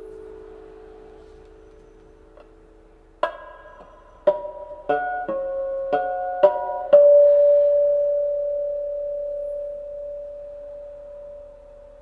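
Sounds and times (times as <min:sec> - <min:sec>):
guitar plucked notes: 0:00.0 - 0:12.0.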